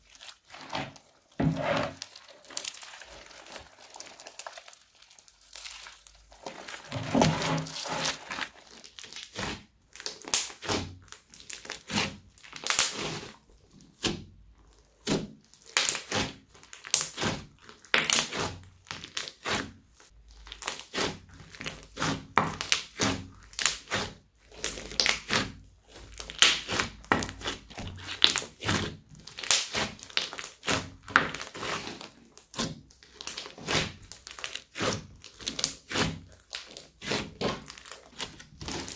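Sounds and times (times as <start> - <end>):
slime crackling and squishing: 0.0 - 38.9.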